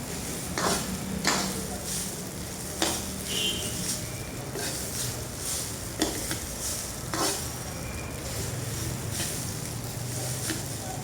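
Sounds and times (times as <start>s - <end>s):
rice sizzling in a hot pan: 0.0s - 11.0s
spatula stirring and scraping: 0.0s - 11.0s.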